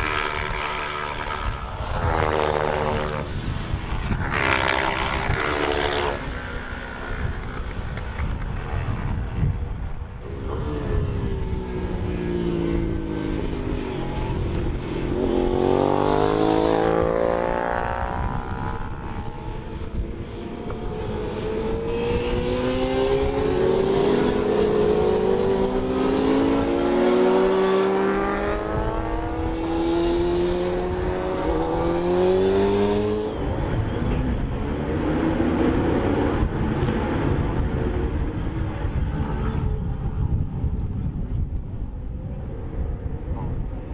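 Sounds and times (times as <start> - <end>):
racing motorcycles at full throttle: 0.0 - 43.9.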